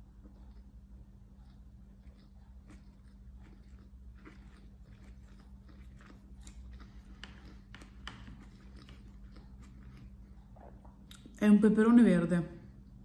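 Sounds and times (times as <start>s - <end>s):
chewing mouth clicks: 0.0s - 11.4s
steady low hum: 0.0s - 13.0s.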